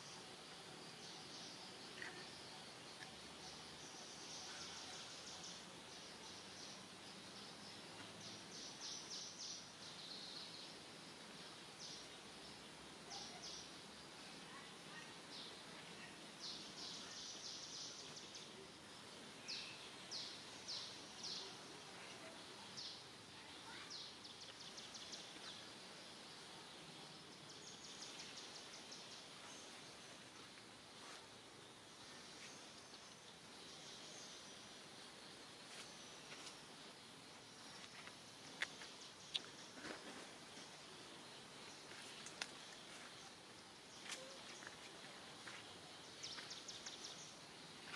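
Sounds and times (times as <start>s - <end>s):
faint outdoor background: 0.0s - 47.9s.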